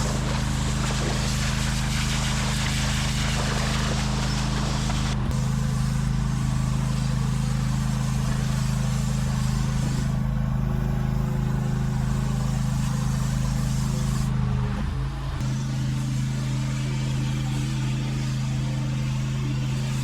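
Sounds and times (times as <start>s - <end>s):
hiss: 0.0s - 14.3s, 15.4s - 20.0s
engine running steadily: 0.0s - 20.0s.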